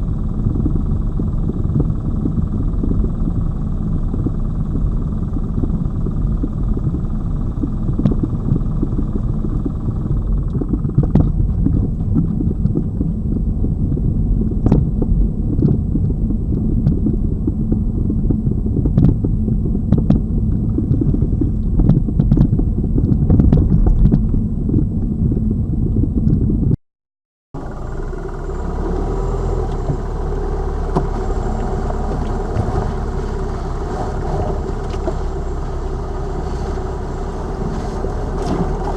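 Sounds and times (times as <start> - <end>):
engine and road hum: 0.0 - 26.8, 27.6 - 38.9
tyres and suspension rumble: 0.0 - 26.8, 27.6 - 38.9.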